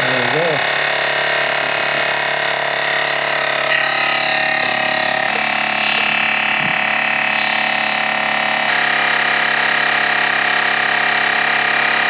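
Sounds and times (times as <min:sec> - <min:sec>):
portable air compressor buzzing: 0:00.0 - 0:12.0.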